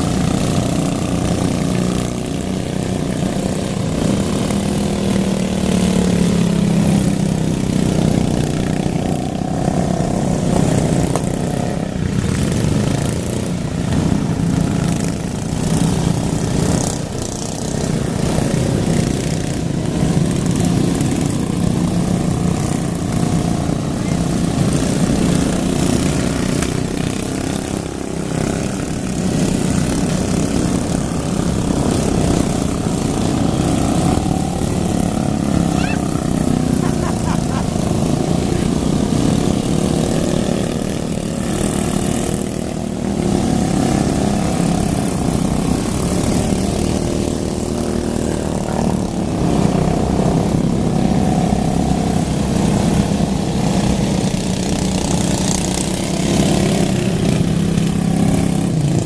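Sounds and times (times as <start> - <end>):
lawn mower engines revving: 0.0 - 59.0.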